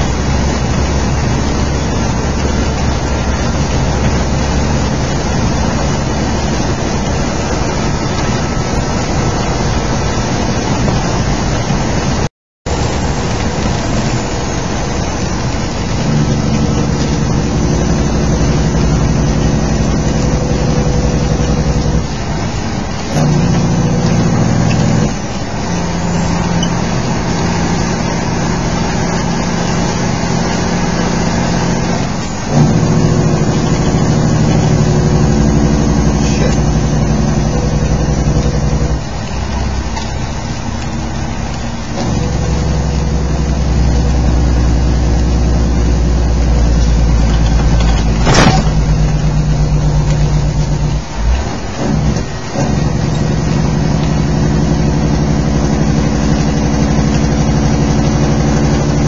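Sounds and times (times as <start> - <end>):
steady rain: 0.0 - 59.0
truck diesel engine running: 0.0 - 59.0
tyre noise on wet road: 0.0 - 59.0.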